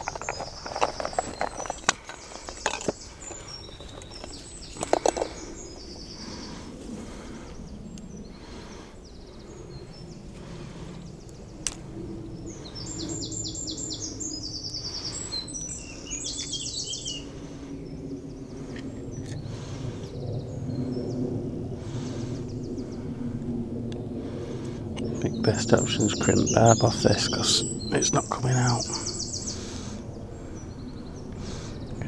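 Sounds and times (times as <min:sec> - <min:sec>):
songbird singing: 0:00.0 - 0:32.0.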